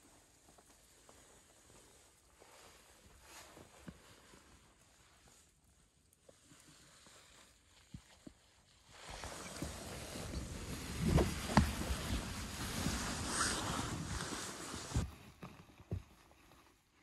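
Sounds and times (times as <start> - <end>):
canvas tarp rustling: 0.0 - 17.0.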